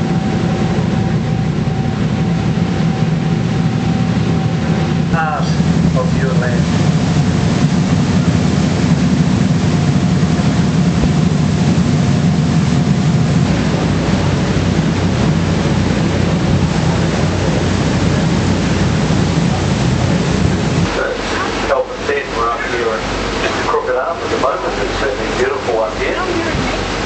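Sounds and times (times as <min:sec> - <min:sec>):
boat engine droning: 0:00.0 - 0:27.0
rush of moving boat: 0:00.0 - 0:27.0.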